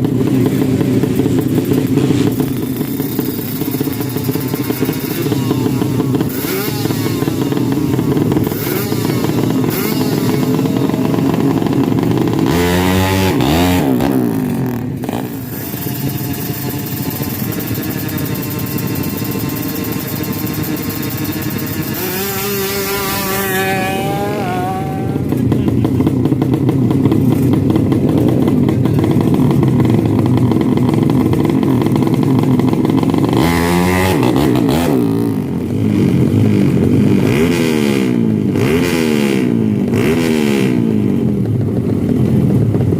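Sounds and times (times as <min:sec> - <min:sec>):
racing motorcycle engines: 0:00.0 - 0:42.9.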